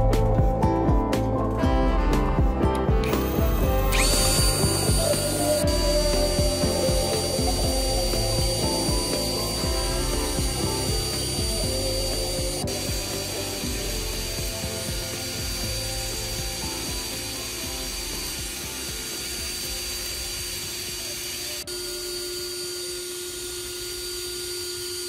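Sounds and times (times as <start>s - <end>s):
cordless drill running: 3.0s - 25.0s.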